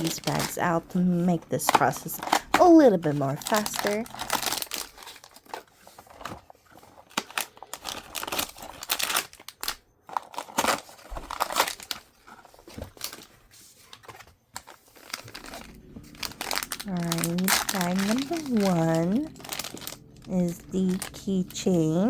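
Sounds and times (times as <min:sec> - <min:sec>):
plastic packaging crinkling: 0:00.0 - 0:22.0
plastic tearing: 0:00.0 - 0:22.0.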